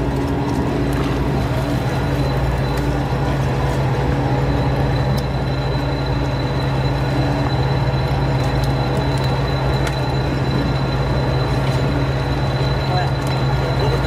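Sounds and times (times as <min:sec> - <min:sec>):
boat machinery droning: 0:00.0 - 0:14.0
faint high whine: 0:00.0 - 0:14.0.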